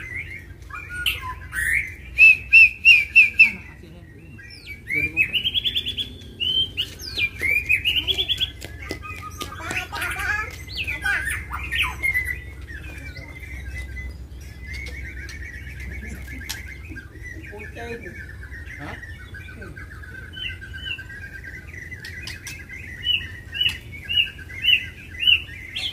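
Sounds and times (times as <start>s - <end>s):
bird whistled phrases: 0.0s - 25.9s
birds singing rattling trills: 0.0s - 25.9s.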